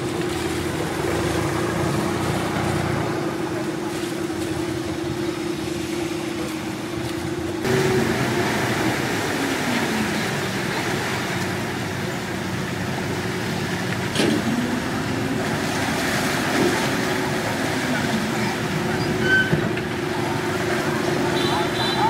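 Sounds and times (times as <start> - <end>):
engines humming: 0.0 - 22.0.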